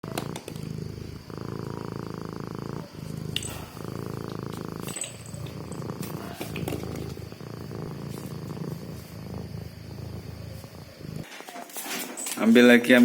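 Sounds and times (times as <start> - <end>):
cat purring: 0.0 - 11.5.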